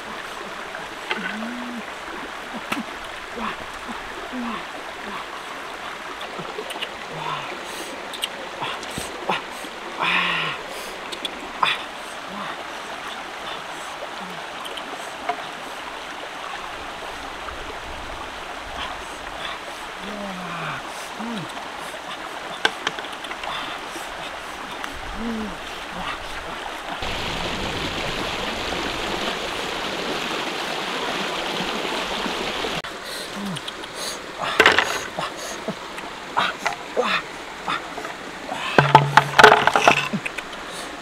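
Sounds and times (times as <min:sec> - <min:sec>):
stream running over rocks: 0:00.0 - 0:41.0.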